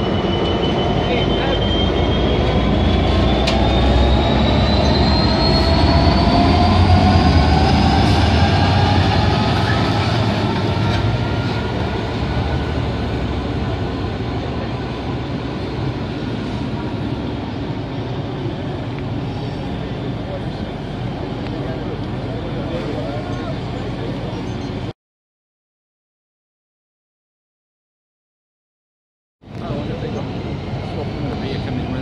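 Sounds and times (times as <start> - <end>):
diesel locomotive pulling away: 0.0 - 24.9, 29.4 - 32.0.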